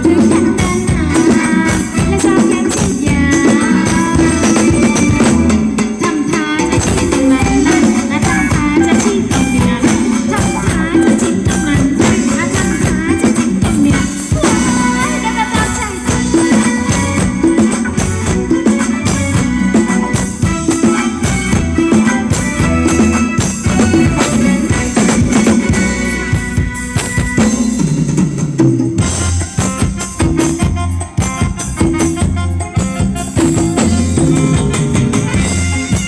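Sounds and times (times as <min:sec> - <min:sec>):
drums and shaken percussion: 0:00.0 - 0:36.0
live band dance music: 0:00.0 - 0:36.0.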